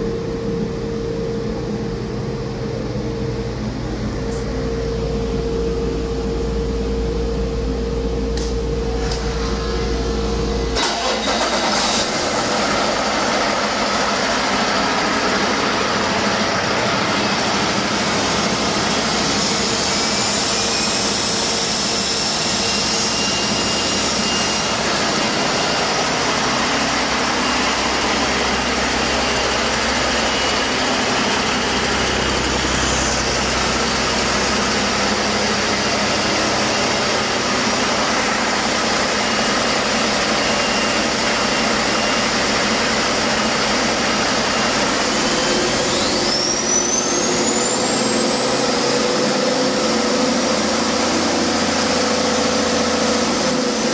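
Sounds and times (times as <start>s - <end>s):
diesel engine running: 0.0s - 53.9s
engine whine: 0.0s - 53.9s.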